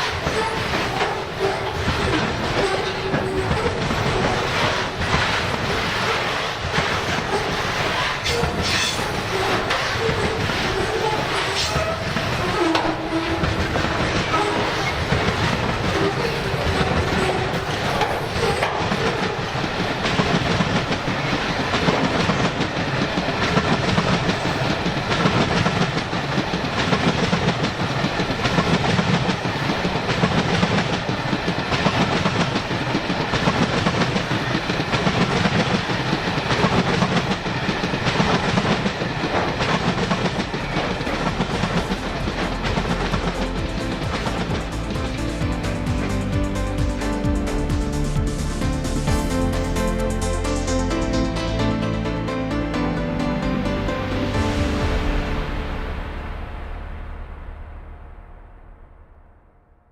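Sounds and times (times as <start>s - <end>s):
train wheels clattering: 0.0s - 50.9s.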